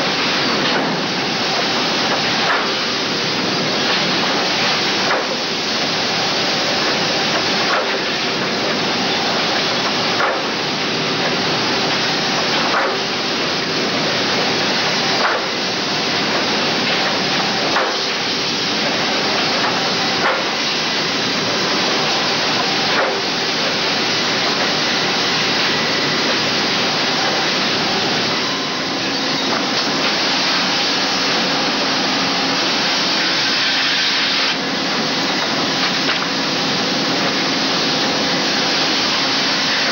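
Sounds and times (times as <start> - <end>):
saws and feed machinery din: 0.0 - 39.9.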